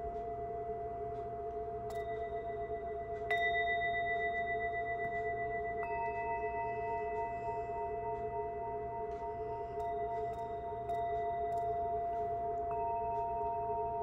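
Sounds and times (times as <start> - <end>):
low wavering tone: 0.0 - 14.0
singing bowls ringing: 0.0 - 14.0.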